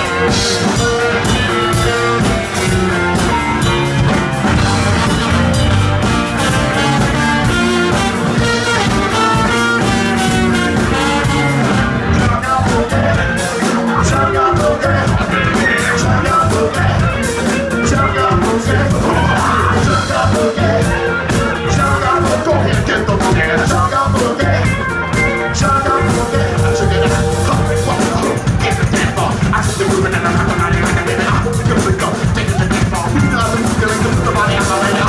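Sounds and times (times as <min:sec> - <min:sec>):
drum kit beat: 0:00.0 - 0:35.0
electric guitars: 0:00.0 - 0:35.0
lead vocal singing: 0:00.0 - 0:35.0
live rock band playing: 0:00.0 - 0:35.0.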